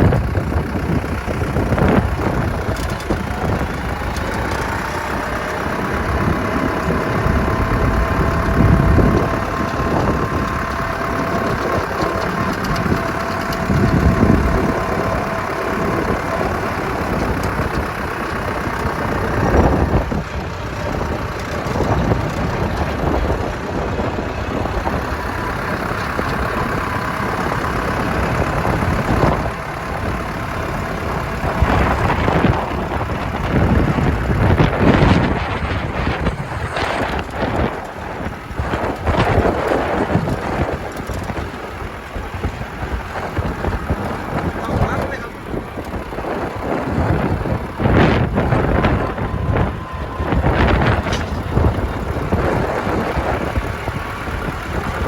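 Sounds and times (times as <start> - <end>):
strong wind gusting: 0.0 - 55.0.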